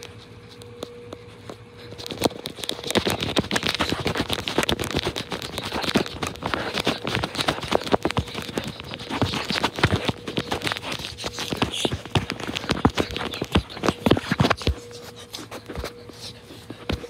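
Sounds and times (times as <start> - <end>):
pen scribbling on paper: 2.0 - 17.0.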